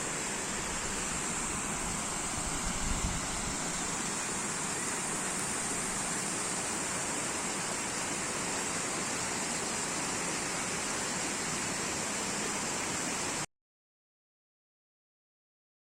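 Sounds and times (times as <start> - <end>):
water flowing: 0.0 - 13.5.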